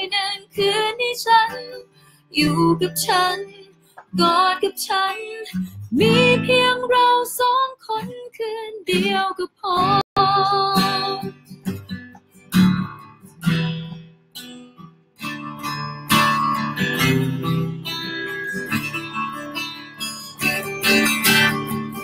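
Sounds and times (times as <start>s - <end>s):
acoustic guitar strumming: 0.0s - 7.4s, 8.9s - 22.0s.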